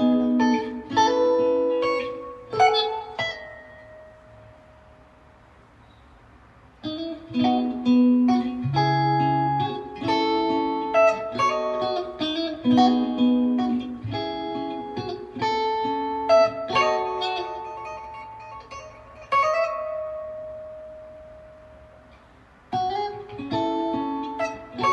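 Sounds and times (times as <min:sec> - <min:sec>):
guitar plucked notes and chords: 0:00.0 - 0:05.4, 0:06.8 - 0:24.9.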